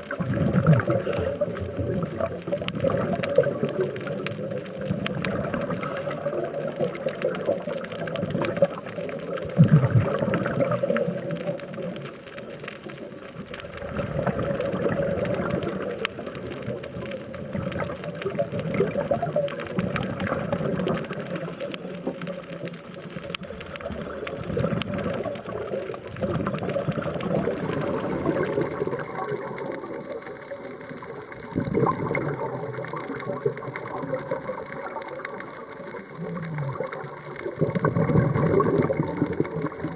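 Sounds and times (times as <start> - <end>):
diver exhaling bubbles underwater: 0.0 - 12.0, 13.6 - 22.3, 23.7 - 39.9
fine crackle of clicks: 0.0 - 39.9.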